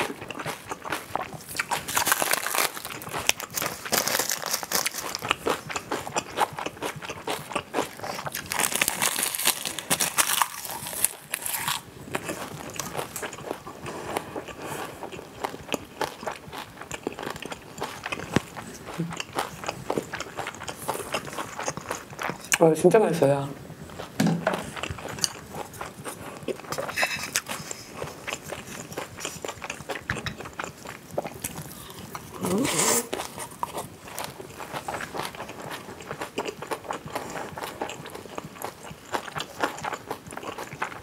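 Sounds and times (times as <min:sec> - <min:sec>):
person chewing crunchy food: 0:00.0 - 0:22.7, 0:23.6 - 0:41.0.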